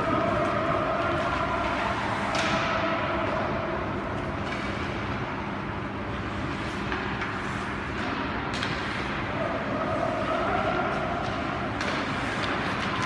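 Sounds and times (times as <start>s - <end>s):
hall noise hum: 0.0s - 13.0s.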